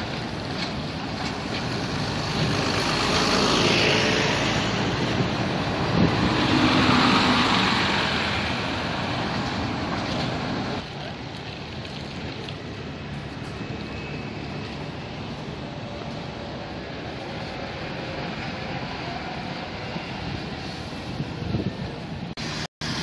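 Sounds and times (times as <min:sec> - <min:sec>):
buses passing close: 0:00.0 - 0:23.0
street traffic: 0:00.0 - 0:23.0.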